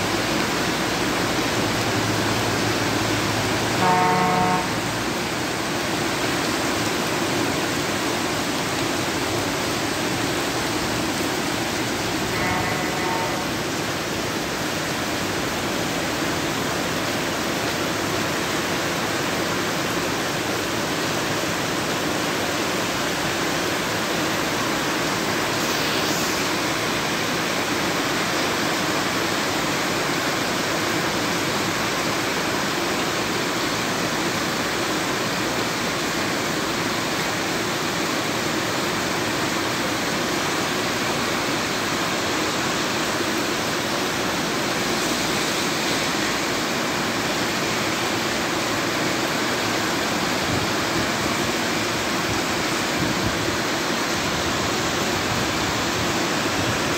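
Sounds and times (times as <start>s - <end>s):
heavy rain: 0.0s - 56.9s
running floodwater rushing: 0.0s - 56.9s.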